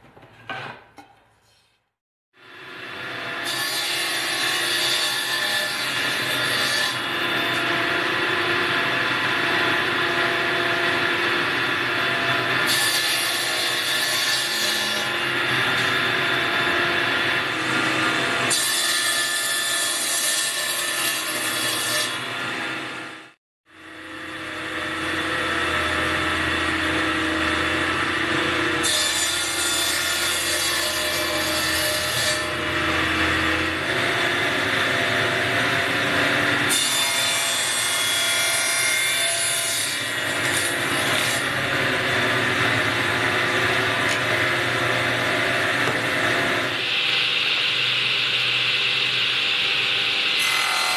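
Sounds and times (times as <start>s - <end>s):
table saw cutting wood: 2.4s - 50.9s.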